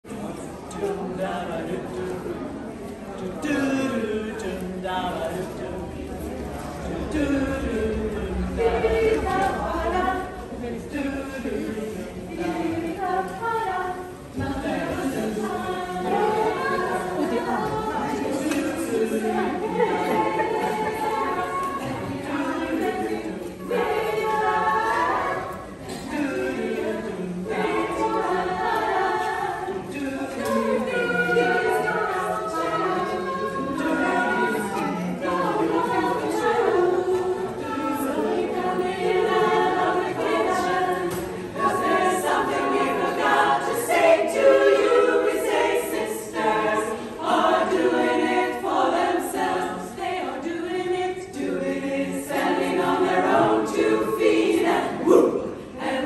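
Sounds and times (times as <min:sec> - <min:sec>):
women's chorus singing a cappella: 0:00.0 - 0:56.0.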